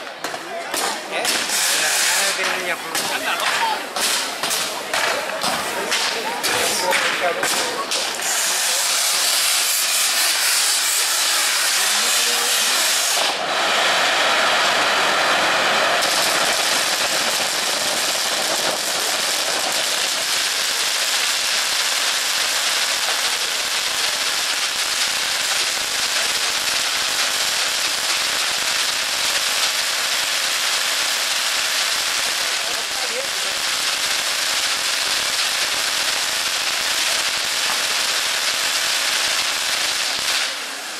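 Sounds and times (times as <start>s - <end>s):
fireworks hissing sparks: 0.0s - 40.9s.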